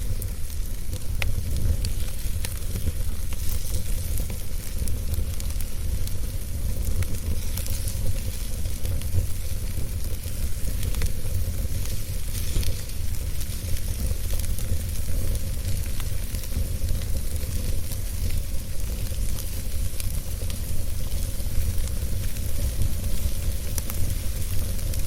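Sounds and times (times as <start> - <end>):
fire crackles popping: 0.0 - 25.0
wood fire rumbling and hissing: 0.0 - 25.0.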